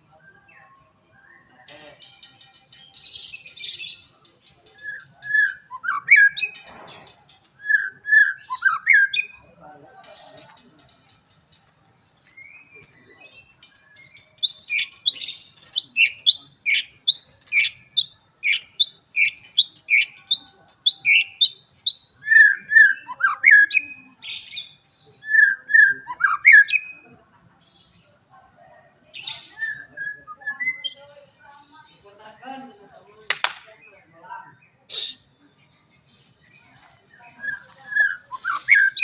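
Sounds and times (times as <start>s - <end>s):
bird singing: 0.0s - 27.1s, 29.1s - 39.0s.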